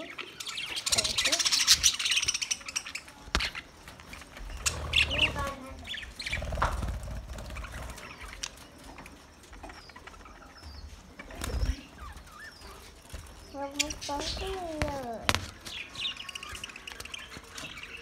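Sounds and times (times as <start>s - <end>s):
budgerigars chirping: 0.0s - 18.0s
wings flapping: 0.6s - 18.0s.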